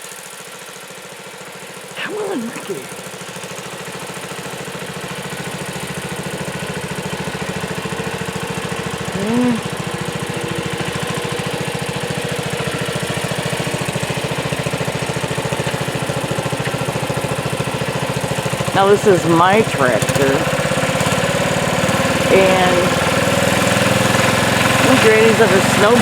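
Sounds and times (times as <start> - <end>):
garden tractor engine running: 3.0 - 26.0.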